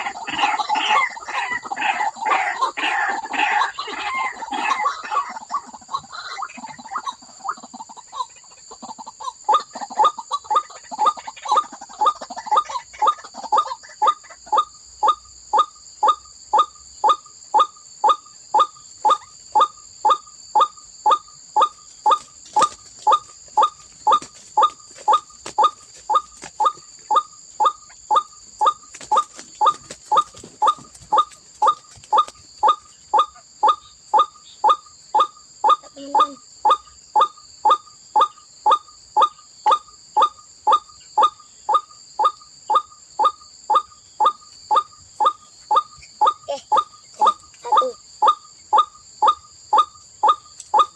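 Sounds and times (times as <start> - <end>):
bird calling: 0.0 - 50.9.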